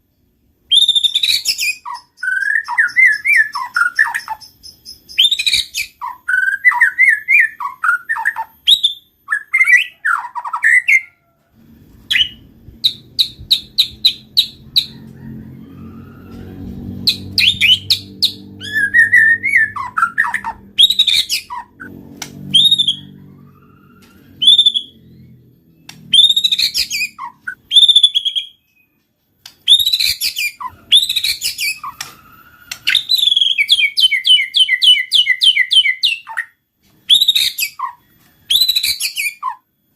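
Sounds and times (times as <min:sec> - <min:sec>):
faint low hum: 0:00.0 - 0:34.2
bird singing whistled phrases: 0:00.7 - 0:11.1, 0:12.1 - 0:14.9, 0:17.0 - 0:21.9, 0:22.5 - 0:29.0, 0:29.6 - 0:39.6.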